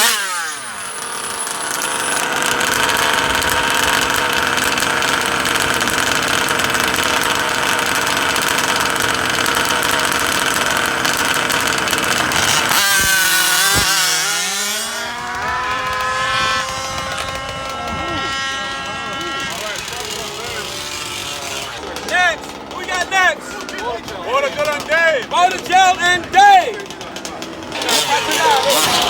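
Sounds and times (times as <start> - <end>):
rc car engines buzzing: 0.0 - 29.0.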